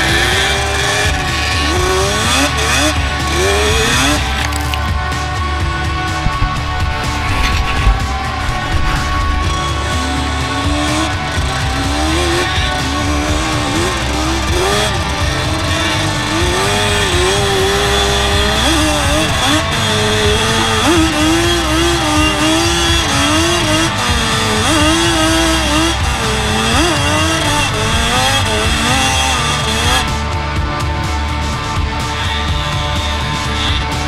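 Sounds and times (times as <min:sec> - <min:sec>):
quad engine revving hard: 0:00.0 - 0:34.0.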